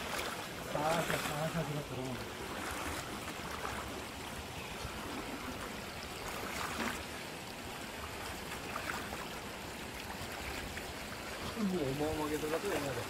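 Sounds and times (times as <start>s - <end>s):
stream water splashing: 0.0s - 13.0s.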